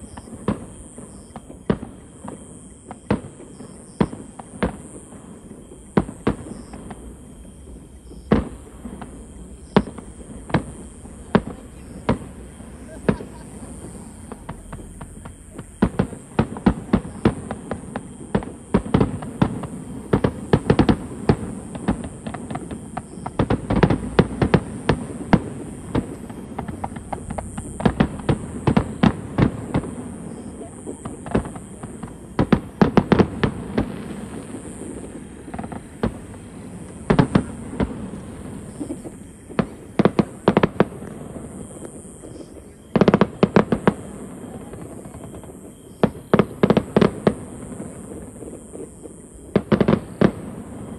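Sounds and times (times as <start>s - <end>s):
fireworks bangs: 0.0s - 50.9s.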